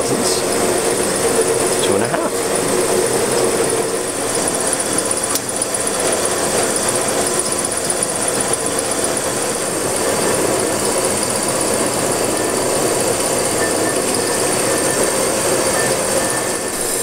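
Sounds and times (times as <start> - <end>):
brake lathe whirring: 0.0 - 17.0.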